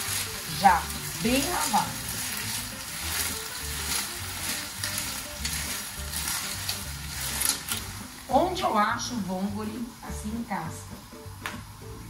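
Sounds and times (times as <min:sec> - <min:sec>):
clams sizzling in oil: 0:00.0 - 0:12.0.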